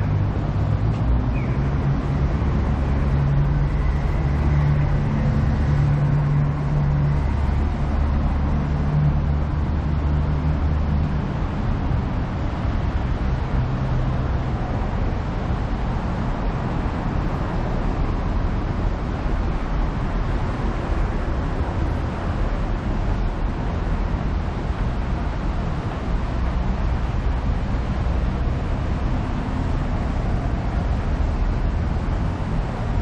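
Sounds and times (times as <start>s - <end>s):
road noise: 0.0s - 33.0s
vehicle engine humming: 0.0s - 33.0s.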